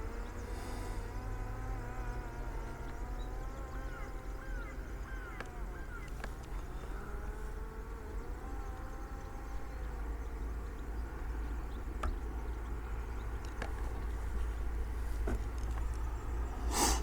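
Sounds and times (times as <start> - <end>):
distant drone motor humming: 0.0 - 17.0.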